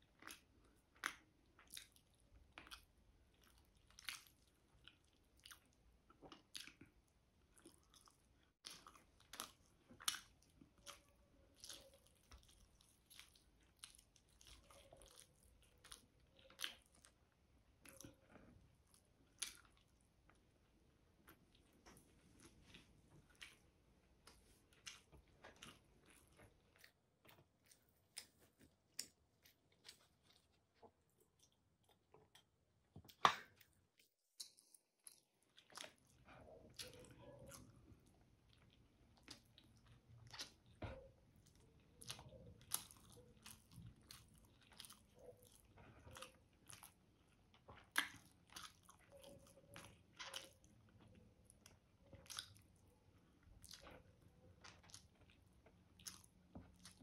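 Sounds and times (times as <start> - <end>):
wet chewing and mouth sounds: 0.0 - 57.0.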